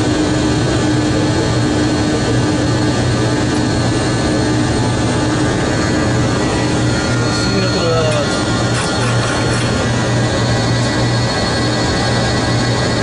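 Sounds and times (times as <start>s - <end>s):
jet engines and rushing air: 0.0s - 13.0s
steady hum tones: 0.0s - 13.0s.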